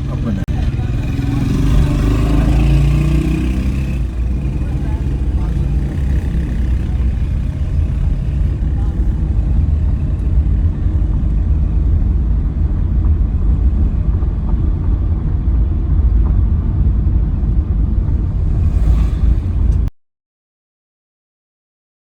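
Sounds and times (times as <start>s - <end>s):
road and wind noise: 0.0s - 19.9s
vehicle rumble: 0.0s - 19.9s.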